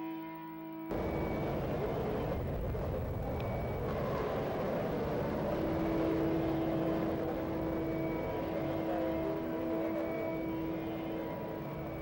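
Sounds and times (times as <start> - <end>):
sustained tone: 0.0 - 12.0
station background rumble: 0.9 - 12.0.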